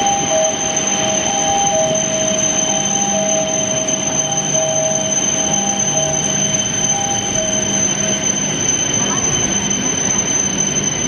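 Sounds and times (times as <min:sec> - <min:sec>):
high whines: 0:00.0 - 0:11.0
mid-pitched whining tones: 0:00.0 - 0:11.0
train running noise: 0:00.0 - 0:11.0.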